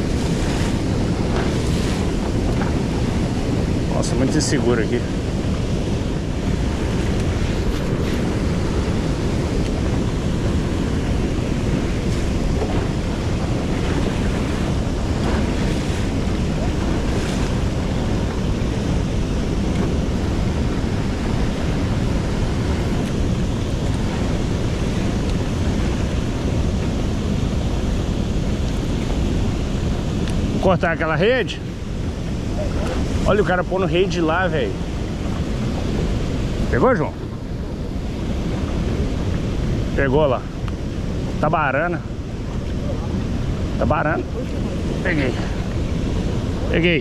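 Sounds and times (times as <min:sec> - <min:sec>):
rushing water: 0:00.0 - 0:47.0
wind buffeting microphone: 0:00.0 - 0:47.0.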